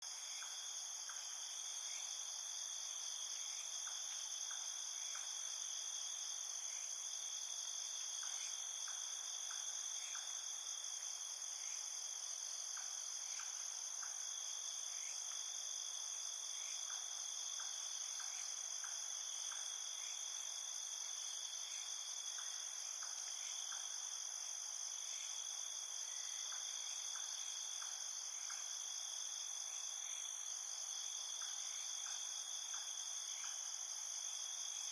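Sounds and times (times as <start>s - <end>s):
low cricket chirps: 0.0s - 34.9s.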